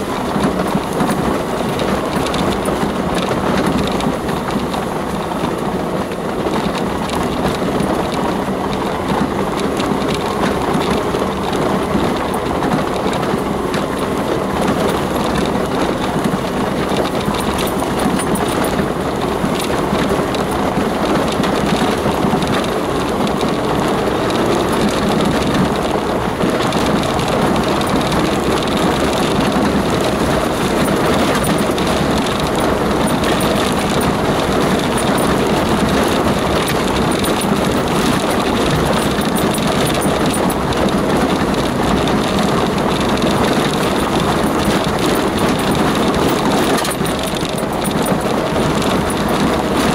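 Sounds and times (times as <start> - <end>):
tyres and body rumbling and rattling: 0.0 - 49.9
vehicle engine running: 0.0 - 49.9.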